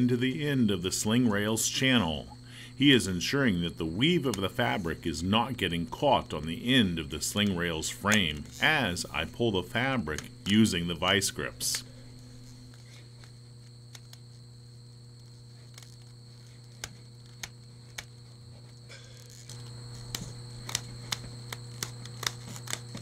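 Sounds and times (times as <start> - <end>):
thin high whine: 0.0 - 23.0.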